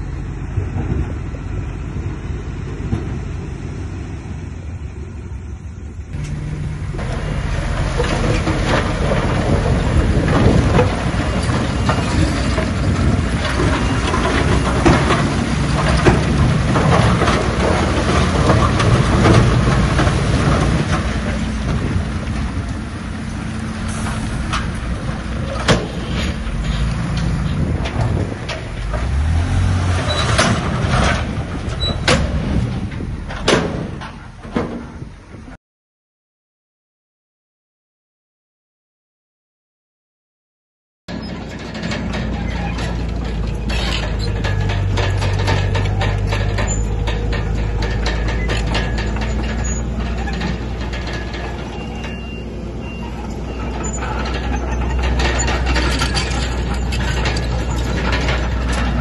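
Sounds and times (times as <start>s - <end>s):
heavy diesel machinery drone: 0.0s - 35.6s, 41.1s - 59.0s.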